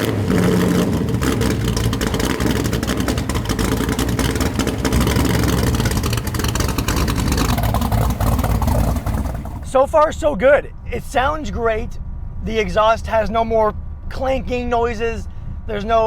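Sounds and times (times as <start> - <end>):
car engine running: 0.0 - 14.7.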